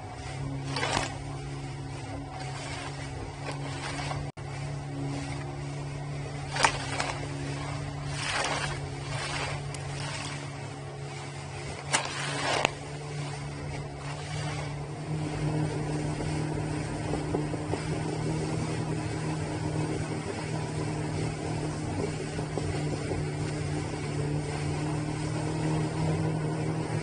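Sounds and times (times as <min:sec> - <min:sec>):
jet ski engine running: 0:00.0 - 0:27.0
rushing water and wind: 0:00.0 - 0:27.0.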